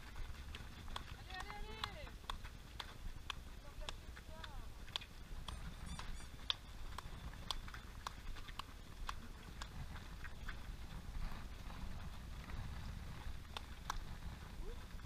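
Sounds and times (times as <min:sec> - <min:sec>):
running footsteps on pavement: 0:00.0 - 0:15.0.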